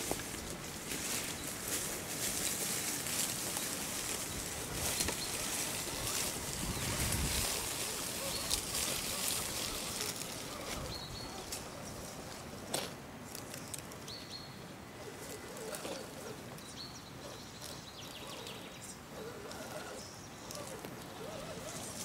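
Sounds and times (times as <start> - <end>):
dry leaves crackling under tyres: 0.0 - 22.0.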